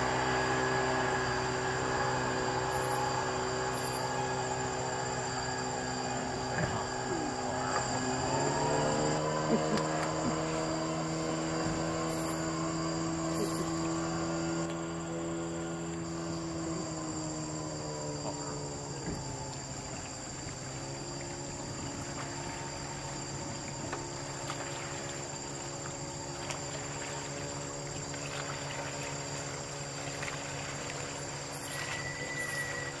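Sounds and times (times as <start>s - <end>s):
boat engine running: 0.0s - 33.0s
night insects chorus: 0.0s - 33.0s.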